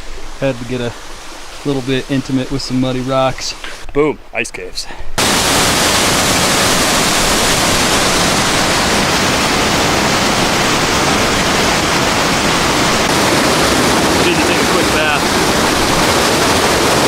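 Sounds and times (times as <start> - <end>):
fast-flowing water rushing: 0.0 - 3.8, 5.2 - 17.0.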